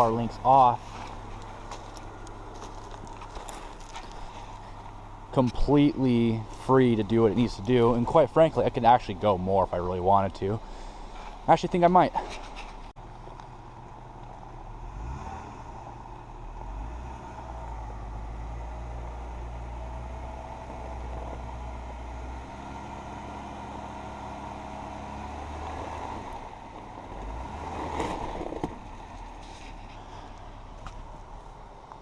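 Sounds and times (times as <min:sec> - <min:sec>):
engine running at low speed: 0:00.0 - 0:11.6, 0:12.2 - 0:32.0.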